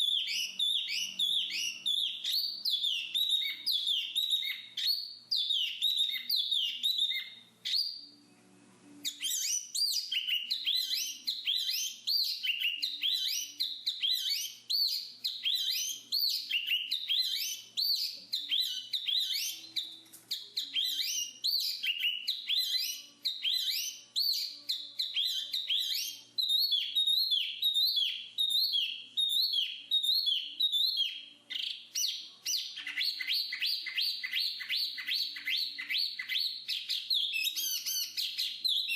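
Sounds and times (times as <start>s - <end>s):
bird singing high whistled notes: 0.0s - 8.3s, 9.0s - 38.9s.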